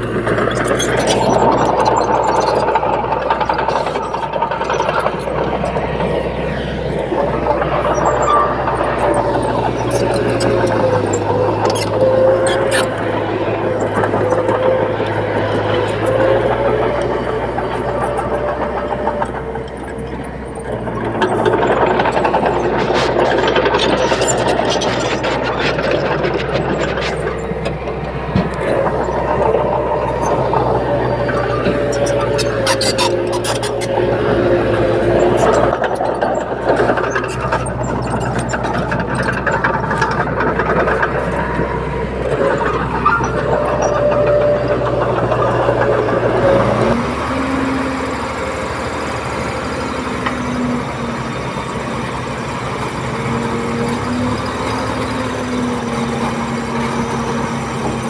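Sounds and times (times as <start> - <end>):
heavy diesel engine running: 0.0 - 58.0
machinery rattling: 0.0 - 58.0.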